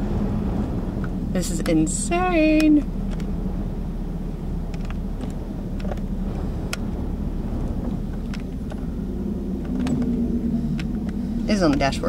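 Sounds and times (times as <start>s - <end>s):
wind buffeting a car: 0.0s - 12.0s.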